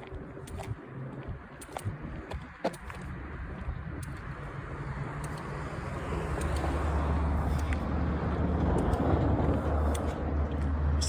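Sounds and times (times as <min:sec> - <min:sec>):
car approaching on road: 0:00.0 - 0:11.0.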